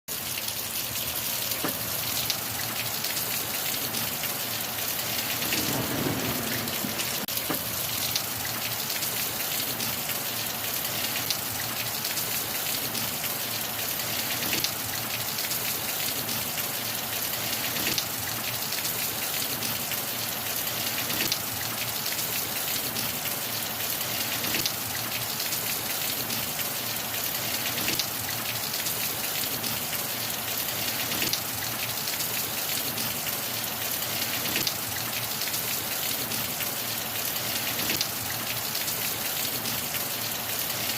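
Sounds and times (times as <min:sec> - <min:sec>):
steady rain falling: 0:00.1 - 0:40.9.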